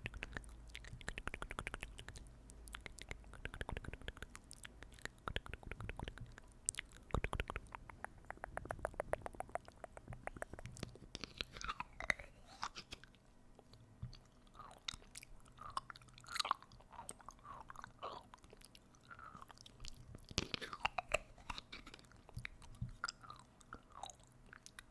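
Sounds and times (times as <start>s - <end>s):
wet tongue clicks and smacks: 0.0s - 24.9s.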